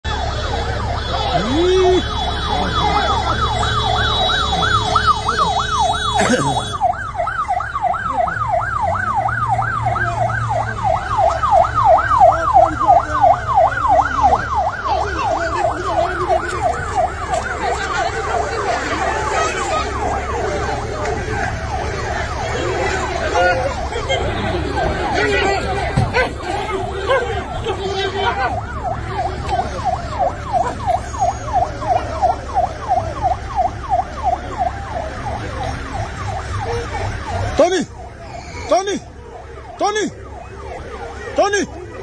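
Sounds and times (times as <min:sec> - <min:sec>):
engines idling: 0:00.0 - 0:42.0
police siren yelping: 0:00.0 - 0:42.0.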